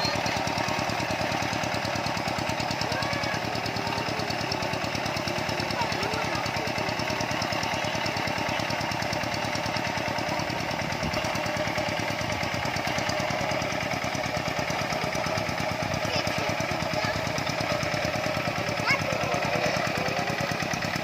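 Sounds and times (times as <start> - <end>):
tractor engine chugging: 0.0 - 21.0.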